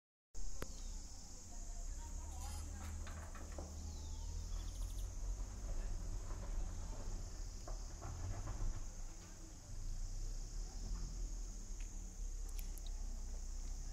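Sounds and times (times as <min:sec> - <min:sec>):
insect chorus drone: 0:00.4 - 0:13.9.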